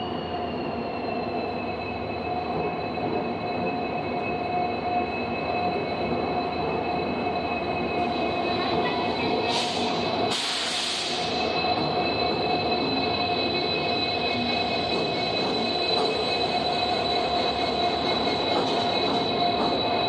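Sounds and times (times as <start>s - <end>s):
high-pitched whine: 0.0s - 20.0s
diesel locomotive running: 1.3s - 20.0s.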